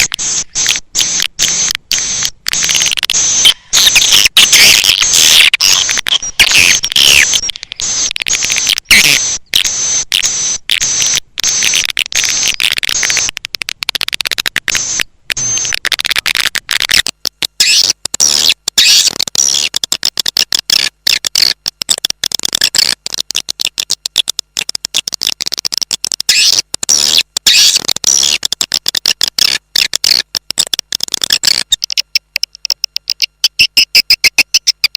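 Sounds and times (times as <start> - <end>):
rapid clicks: 0.0 - 34.9.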